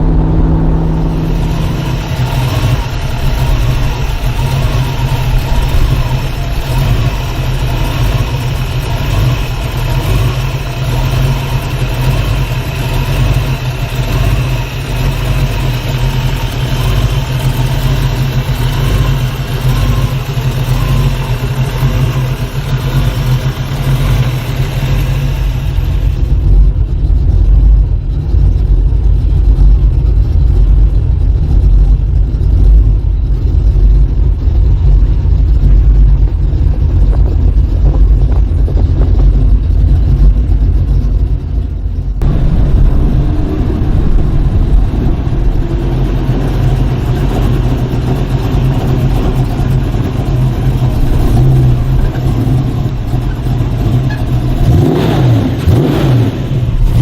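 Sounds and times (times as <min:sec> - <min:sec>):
car engine rumbling: 0:00.0 - 0:57.0.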